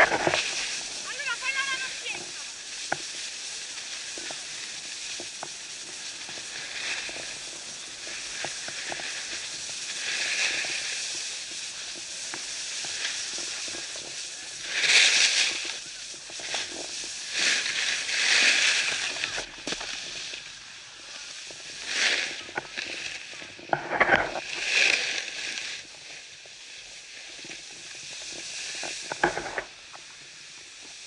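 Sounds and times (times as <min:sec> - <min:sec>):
snowboard scraping on snow: 0:00.0 - 0:31.0.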